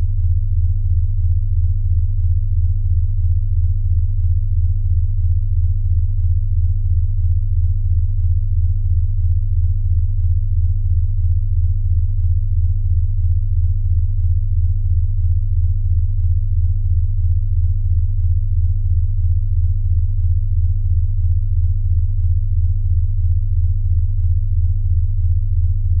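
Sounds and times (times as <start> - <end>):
low throbbing electronic tone: 0.0 - 26.0.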